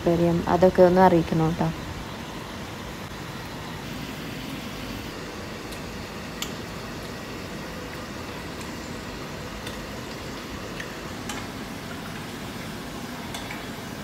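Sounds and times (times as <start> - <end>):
background hum and hiss: 0.0 - 14.0.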